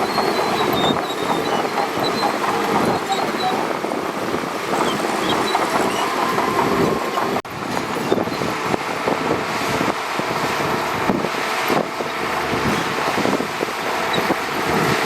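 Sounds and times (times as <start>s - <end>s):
steel tracks clanking: 0.0s - 13.2s
bulldozer engine: 0.0s - 15.0s.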